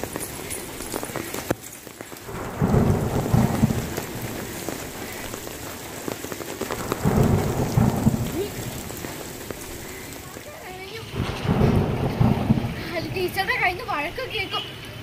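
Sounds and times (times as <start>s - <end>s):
thunder rumbling: 0.0s - 14.3s
rain pattering: 0.0s - 15.0s.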